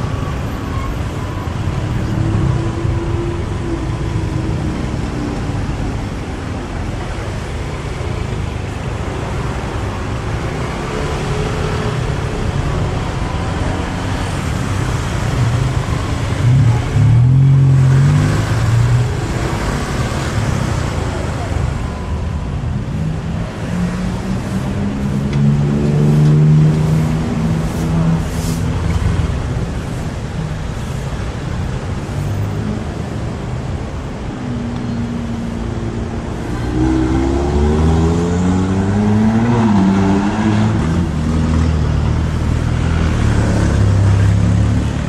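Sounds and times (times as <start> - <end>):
vehicles accelerating away: 1.8 - 29.9, 32.0 - 45.0.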